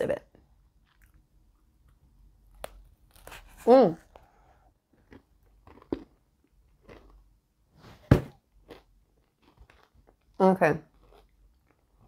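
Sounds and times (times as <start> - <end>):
person chewing crunchy pretzel: 0.8 - 1.2, 1.8 - 7.4, 8.4 - 12.0.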